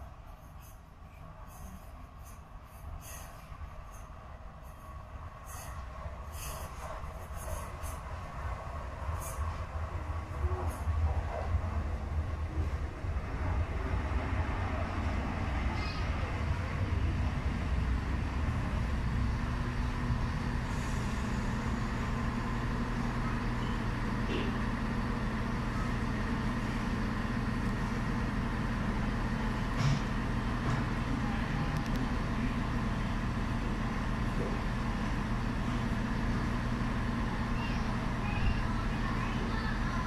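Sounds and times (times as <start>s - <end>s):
train diesel engines humming: 0.0s - 40.0s.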